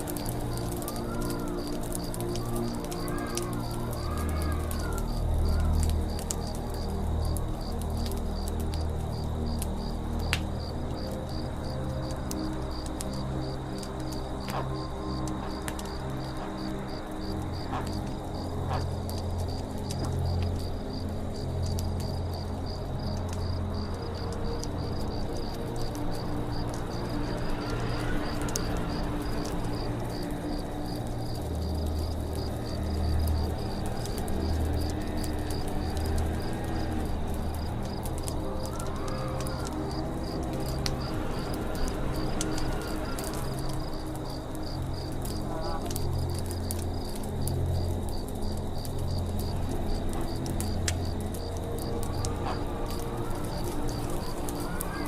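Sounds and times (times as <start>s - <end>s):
campfire crackling and popping: 0.0s - 55.0s
cricket chirping: 0.1s - 55.0s.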